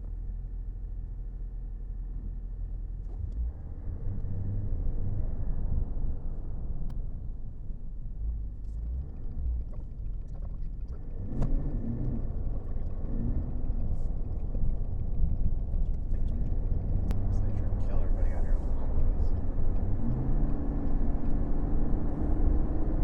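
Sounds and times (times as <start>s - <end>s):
diesel engine low rumble: 0.0s - 23.0s.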